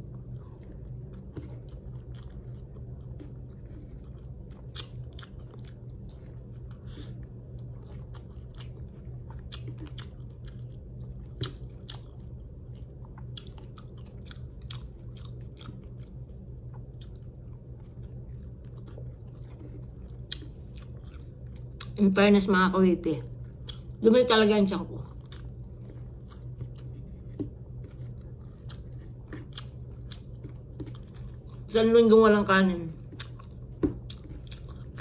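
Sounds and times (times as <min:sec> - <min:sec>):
person chewing food: 0:00.0 - 0:22.0, 0:23.3 - 0:24.0, 0:25.0 - 0:31.7, 0:33.0 - 0:35.0
steady low hum: 0:00.0 - 0:35.0.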